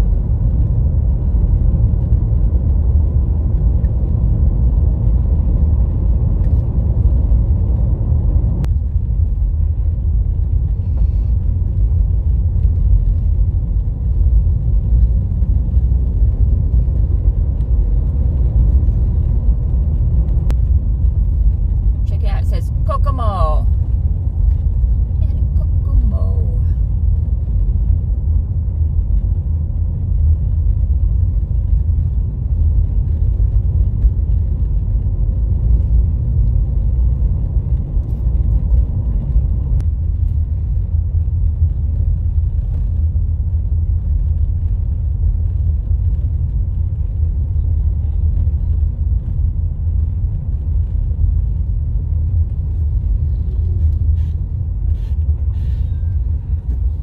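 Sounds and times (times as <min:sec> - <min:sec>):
car interior road noise: 0:00.0 - 0:57.0.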